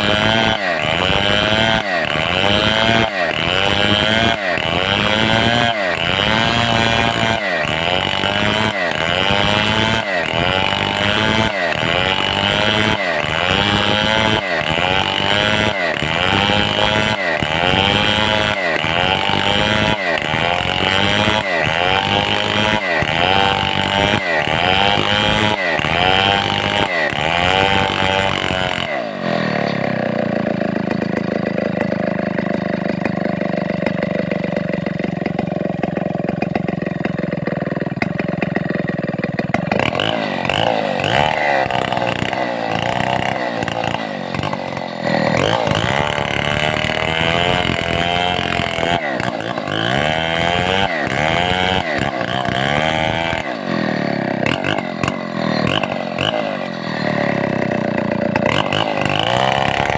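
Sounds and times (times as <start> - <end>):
chainsaw cutting timber: 0.0 - 59.9.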